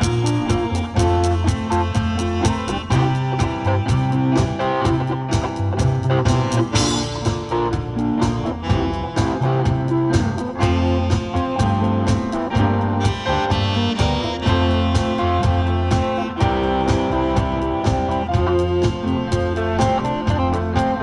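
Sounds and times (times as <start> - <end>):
bass line: 0.0 - 21.0
drum kit beat: 0.0 - 21.0
guitar: 0.0 - 21.0
keyboard: 0.0 - 21.0.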